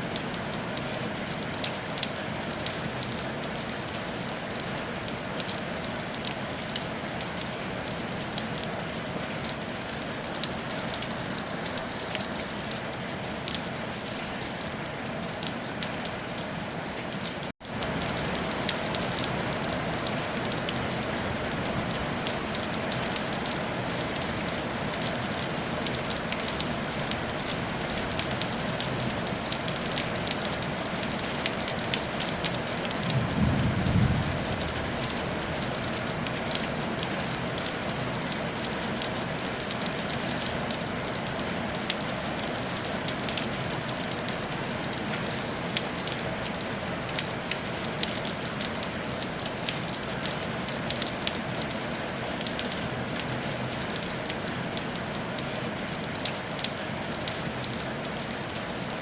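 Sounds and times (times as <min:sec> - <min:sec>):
rain on a tile roof: 0:00.0 - 0:59.0.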